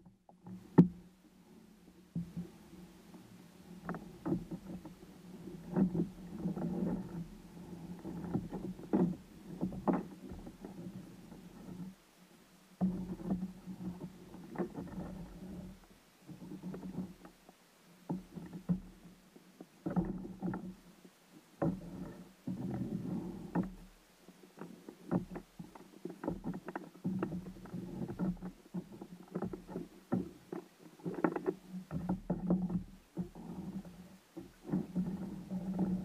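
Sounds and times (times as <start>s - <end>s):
small knocks on hull: 0.0s - 1.2s, 2.1s - 2.6s, 3.7s - 7.4s, 8.0s - 12.0s, 12.8s - 17.5s, 18.1s - 20.9s, 21.6s - 24.0s, 24.6s - 36.0s.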